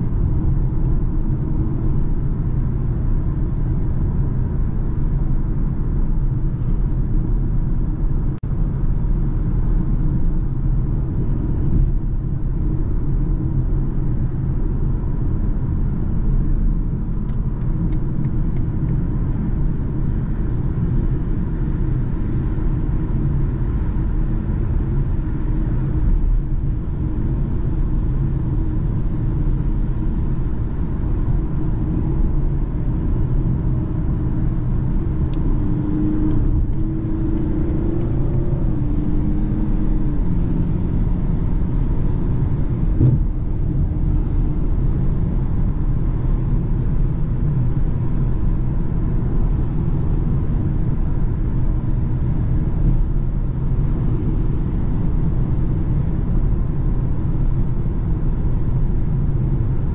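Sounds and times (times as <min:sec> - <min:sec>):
low car engine hum: 0:00.0 - 0:59.9.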